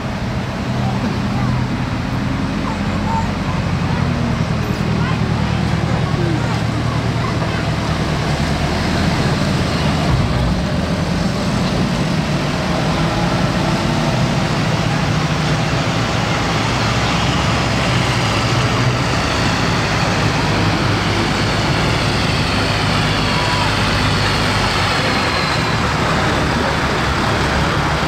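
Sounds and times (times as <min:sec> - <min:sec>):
road noise: 0:00.0 - 0:28.0
tractor engines running: 0:00.0 - 0:28.0.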